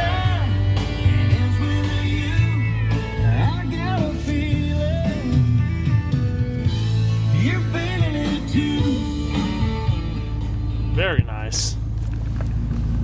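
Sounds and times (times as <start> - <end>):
song on car radio: 0.0 - 11.8.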